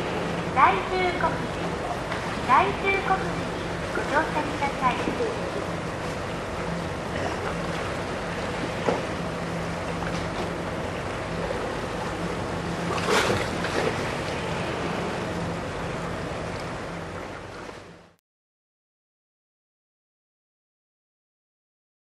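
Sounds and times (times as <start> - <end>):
water lapping: 0.0 - 18.1
ship engine humming: 0.0 - 18.2.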